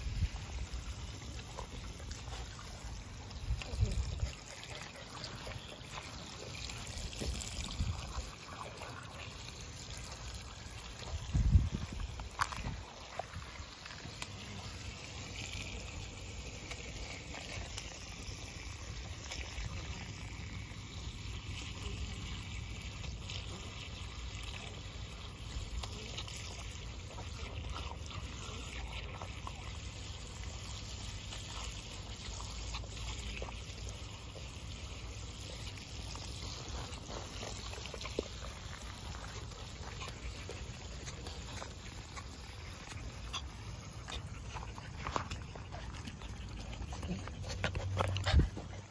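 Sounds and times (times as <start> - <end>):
hose water spraying onto grass: 0.0 - 48.9.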